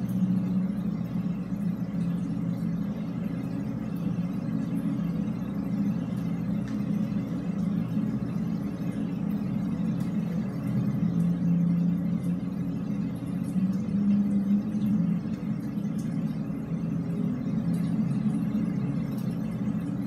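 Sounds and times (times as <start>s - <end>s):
low background noise in drainpipe: 0.0s - 20.0s.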